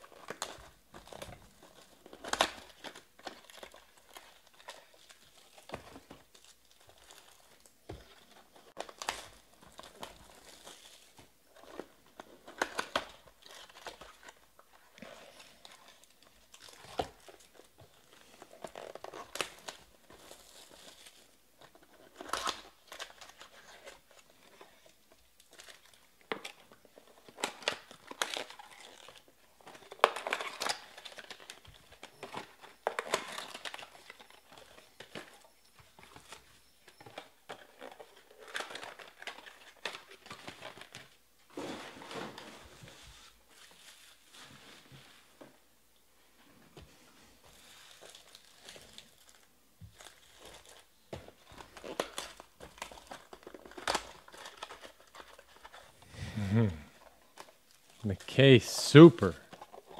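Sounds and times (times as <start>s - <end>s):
plastic wrappers crinkling and tearing: 0.0s - 45.3s, 47.2s - 58.2s, 59.2s - 59.9s.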